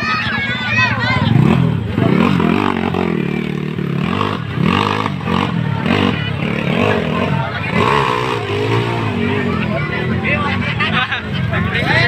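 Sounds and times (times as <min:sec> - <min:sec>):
dirt bike engine revving: 0:00.3 - 0:11.0.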